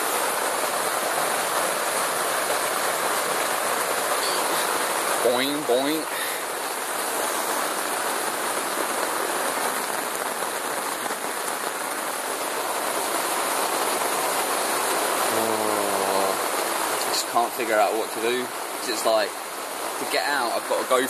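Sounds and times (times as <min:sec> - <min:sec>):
heavy rain on a tent: 0:00.0 - 0:21.0.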